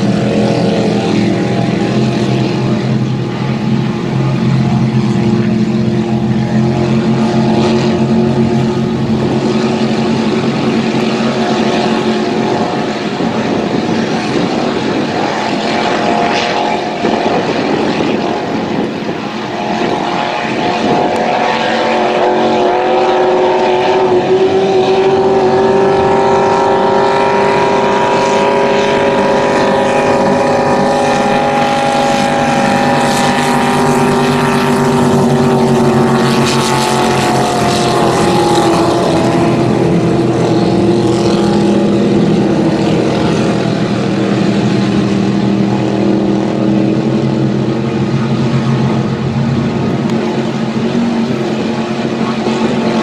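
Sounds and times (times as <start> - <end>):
motorboat engines droning: 0.0 - 53.0.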